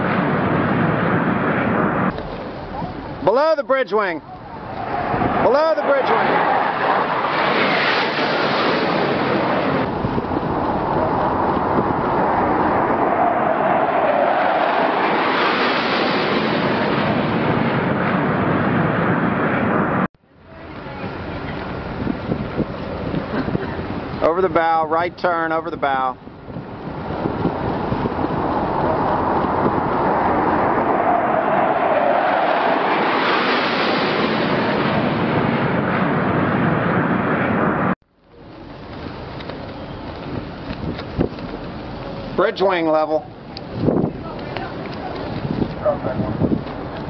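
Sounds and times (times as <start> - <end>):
jet engines rushing past: 0.0 - 47.0
wind buffeting microphone: 0.0 - 47.0.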